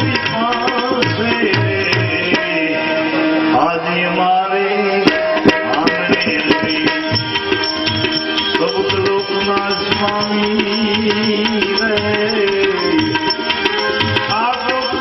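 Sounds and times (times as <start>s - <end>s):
hand drums: 0.0s - 3.6s, 5.0s - 15.0s.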